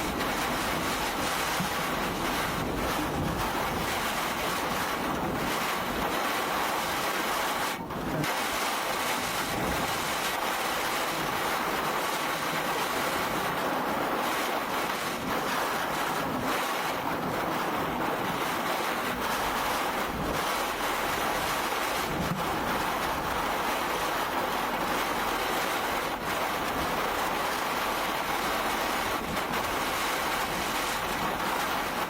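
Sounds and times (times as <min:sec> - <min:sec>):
wind and heavy rain on car: 0:00.0 - 0:32.0.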